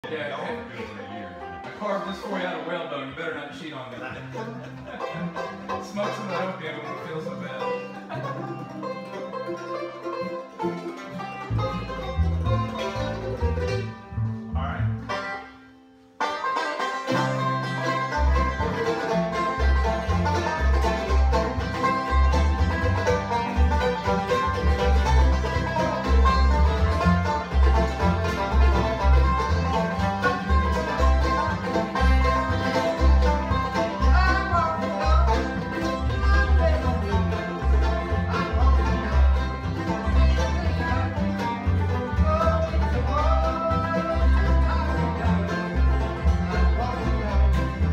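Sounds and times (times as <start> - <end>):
bluegrass string band playing: 0.0 - 47.9
upright bass plucked notes: 4.1 - 15.6, 17.1 - 47.9.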